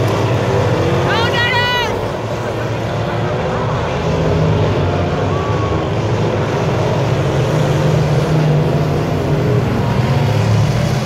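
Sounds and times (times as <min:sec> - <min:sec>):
stock car engines racing: 0:00.0 - 0:11.0.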